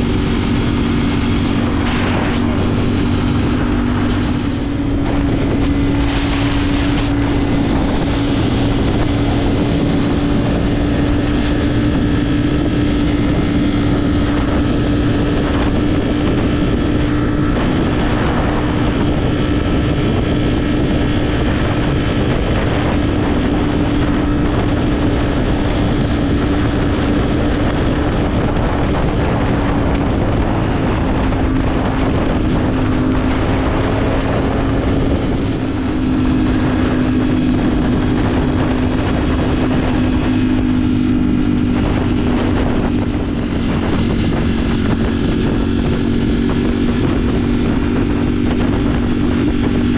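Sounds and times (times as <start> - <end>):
motorcycle engine cruising: 0.0 - 49.9
wind on microphone: 0.0 - 49.9.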